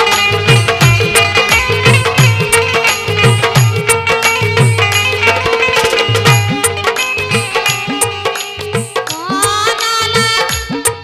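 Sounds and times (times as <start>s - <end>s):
ornamented folk melody: 0.0s - 10.9s
hand drum rhythm: 0.0s - 11.0s.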